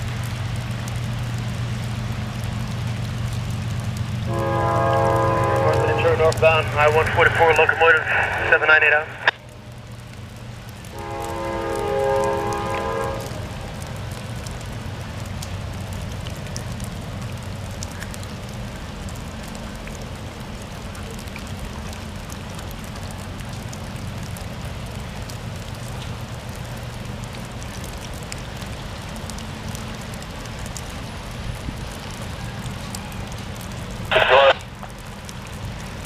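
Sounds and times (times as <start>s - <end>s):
drops ticking: 0.0s - 31.0s
rain falling: 0.0s - 36.0s.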